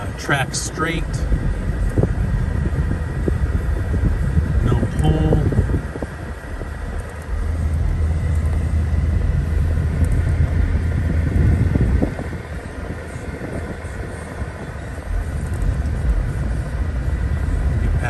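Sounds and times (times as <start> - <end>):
car engine rumble inside cabin: 0.0 - 18.0.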